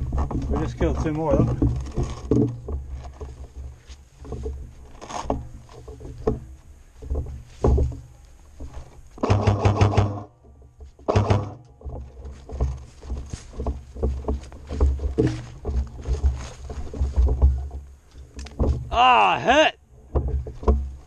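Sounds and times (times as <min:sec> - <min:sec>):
rustling through long grass: 0:00.0 - 0:18.9.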